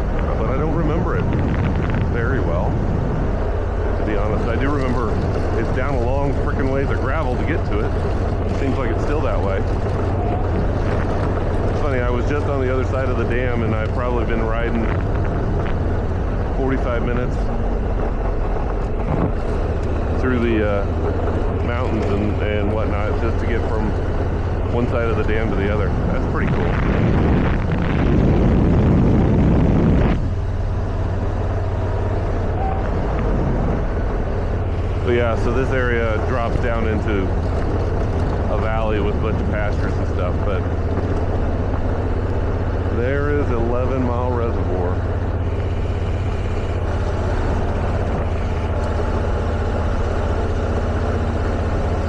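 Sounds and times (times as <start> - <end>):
motorcycle engine running: 0.0 - 52.0
wind rushing over microphone: 0.0 - 52.0.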